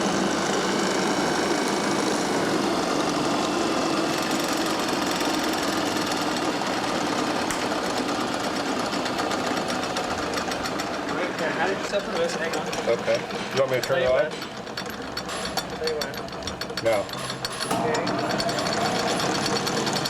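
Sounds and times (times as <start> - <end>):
motor spinning a generator: 0.0 - 20.0.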